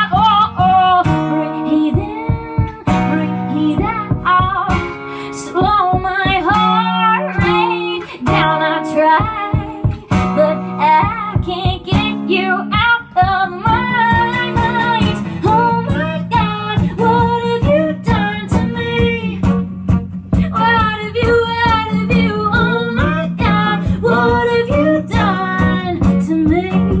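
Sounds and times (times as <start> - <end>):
woman singing slow song: 0.0 - 19.4, 20.4 - 27.0
strummed acoustic guitars: 0.0 - 27.0.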